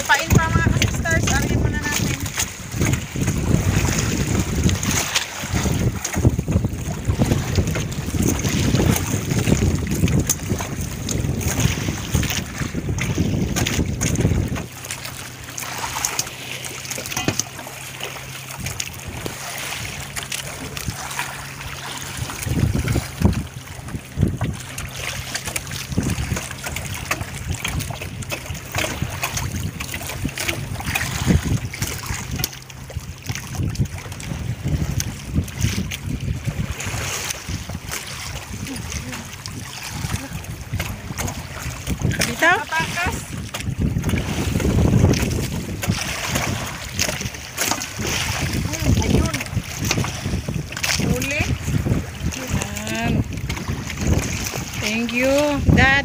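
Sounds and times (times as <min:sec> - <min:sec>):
boat engine running: 0:00.0 - 0:56.0
wind buffeting microphone: 0:00.0 - 0:56.0.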